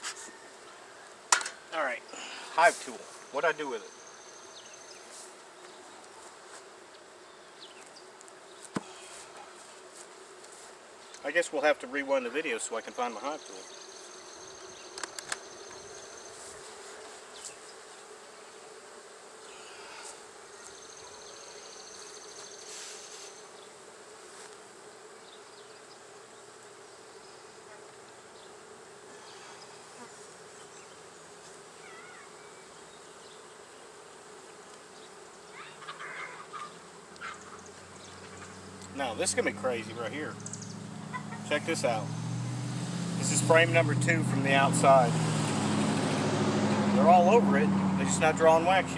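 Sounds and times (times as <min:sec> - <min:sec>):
honey bees buzzing: 0:00.0 - 0:48.9.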